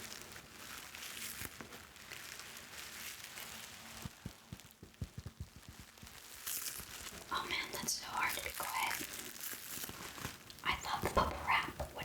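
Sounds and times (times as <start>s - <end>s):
bubble wrap crinkling: 0.0s - 12.0s
bubble wrap popping clicks: 0.0s - 12.0s.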